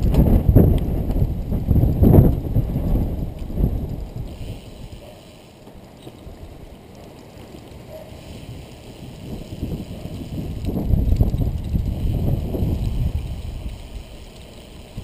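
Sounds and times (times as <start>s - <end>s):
wind buffeting microphone: 0.0s - 5.1s, 7.9s - 15.0s.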